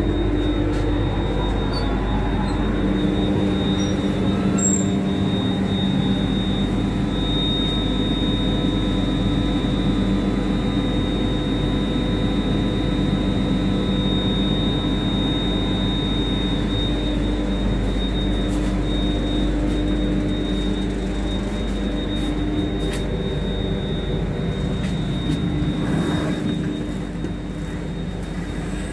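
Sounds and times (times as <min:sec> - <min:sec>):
air-conditioning hum: 0:00.0 - 0:28.9.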